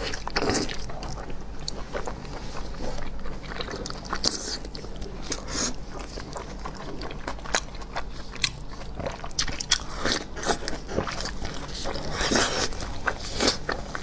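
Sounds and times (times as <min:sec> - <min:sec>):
chewing sausage: 0:00.0 - 0:14.0.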